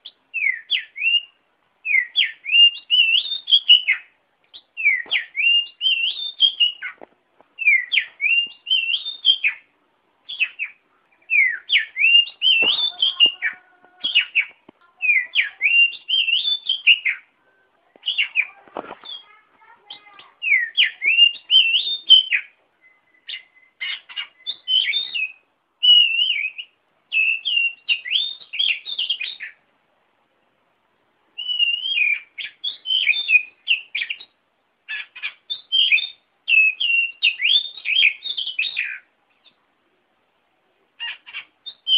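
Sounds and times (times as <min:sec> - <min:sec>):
bird singing whistled notes: 0:00.0 - 0:07.0, 0:07.6 - 0:09.7, 0:10.3 - 0:17.3, 0:18.0 - 0:19.3, 0:19.9 - 0:29.6, 0:31.4 - 0:39.6, 0:41.0 - 0:41.9.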